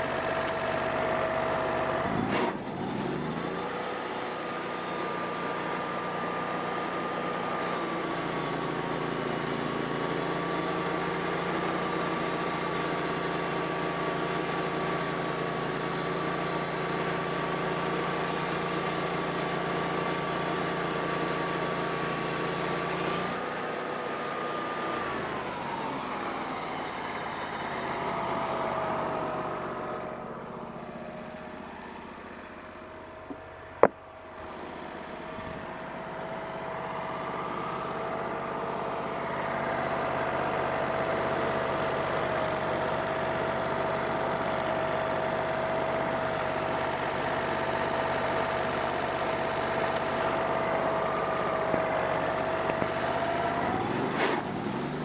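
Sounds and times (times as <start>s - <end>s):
bandsaw mill sawing log: 0.0s - 30.3s, 33.3s - 55.0s.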